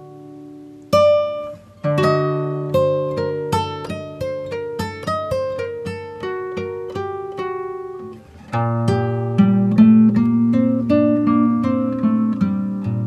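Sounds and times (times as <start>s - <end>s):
plucked instrumental melody: 0.8s - 13.0s.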